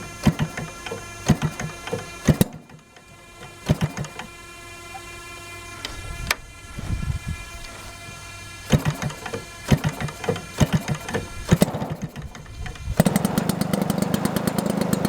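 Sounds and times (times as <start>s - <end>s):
model aircraft engine running: 0.0s - 15.0s.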